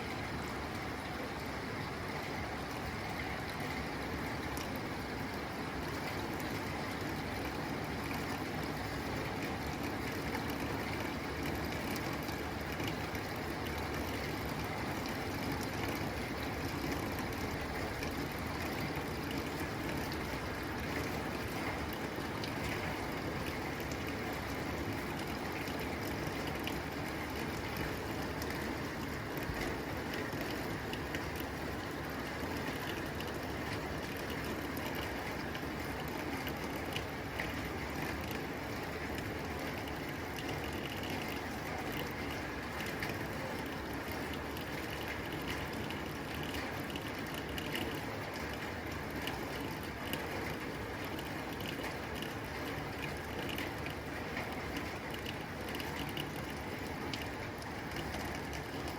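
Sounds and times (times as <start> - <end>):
rain pattering on a tin roof: 0.0 - 58.9.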